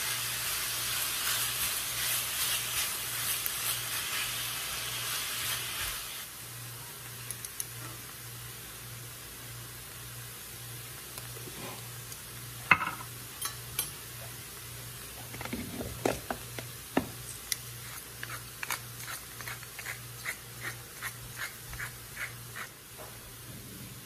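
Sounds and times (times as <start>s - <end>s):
vegetables sizzling in a pan: 0.0s - 24.0s.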